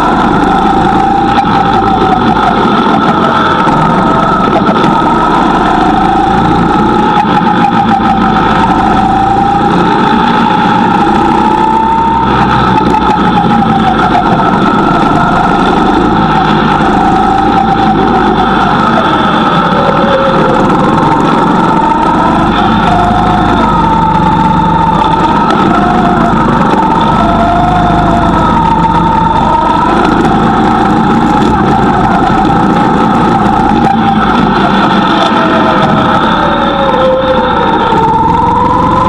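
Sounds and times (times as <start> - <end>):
go-kart engine accelerating: 0.0 - 39.0.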